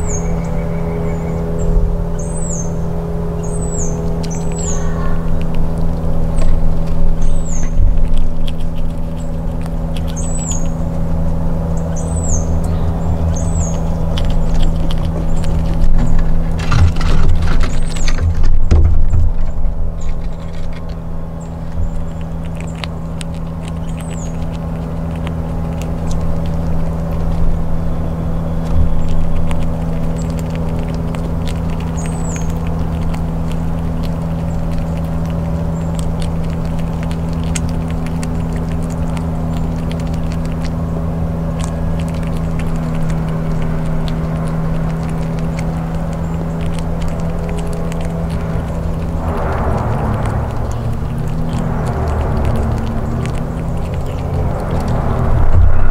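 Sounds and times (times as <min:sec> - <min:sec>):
low mechanical hum: 0:00.0 - 0:55.9
squirrel gnawing peanuts: 0:00.0 - 0:55.9.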